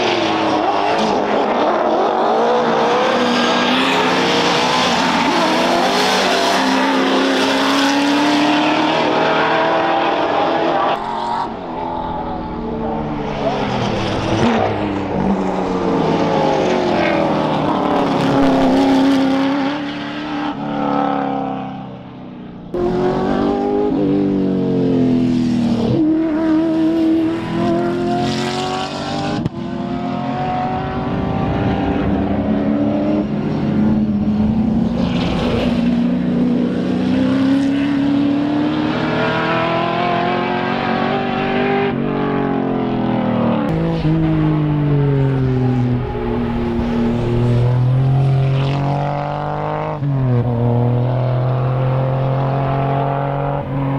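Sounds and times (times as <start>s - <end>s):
race car engines at full throttle: 0.0s - 53.9s.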